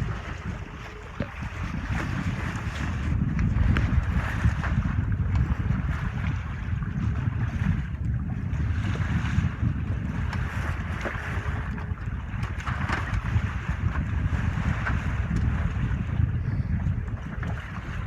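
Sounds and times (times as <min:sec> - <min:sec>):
water washing past hull: 0:00.0 - 0:18.0
wind buffeting microphone: 0:00.0 - 0:18.0.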